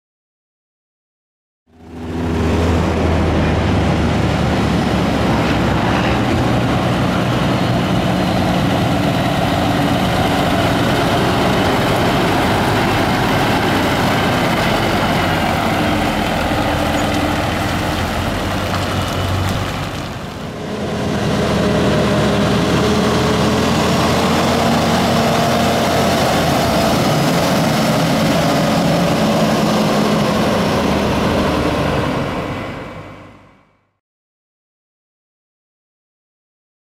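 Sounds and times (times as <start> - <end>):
truck diesel engine driving by: 1.7 - 33.9.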